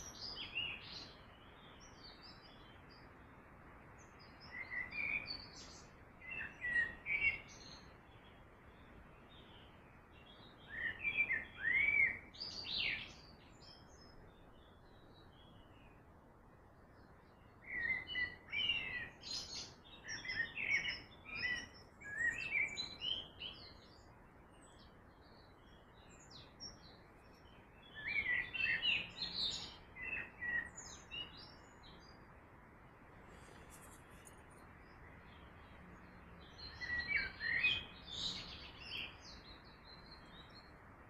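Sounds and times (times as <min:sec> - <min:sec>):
flowing river water hiss: 0:00.0 - 0:41.0
songbirds chirping and singing: 0:00.0 - 0:41.0.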